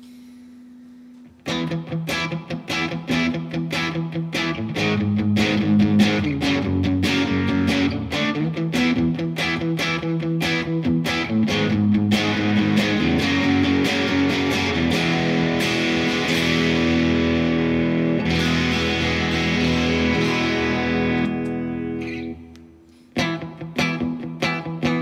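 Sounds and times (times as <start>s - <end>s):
electric guitar chords: 0.0s - 25.0s
electric guitar quick notes: 1.4s - 25.0s.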